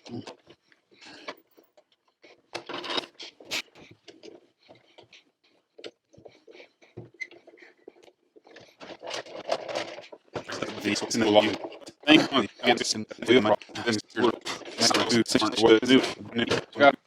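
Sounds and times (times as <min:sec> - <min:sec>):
plastic parts clicking and scraping: 0:00.2 - 0:06.4, 0:07.0 - 0:12.1, 0:13.5 - 0:17.0.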